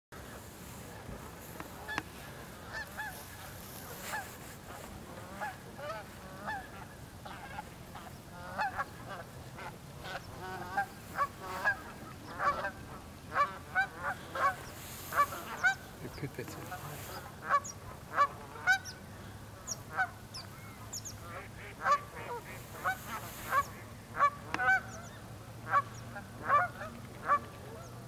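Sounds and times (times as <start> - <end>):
geese honking: 0.4 - 28.0.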